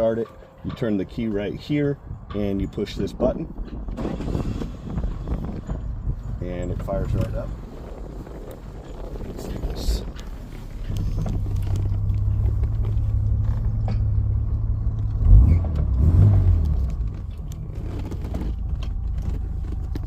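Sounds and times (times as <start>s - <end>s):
car engine starting and idling: 3.9s - 20.0s.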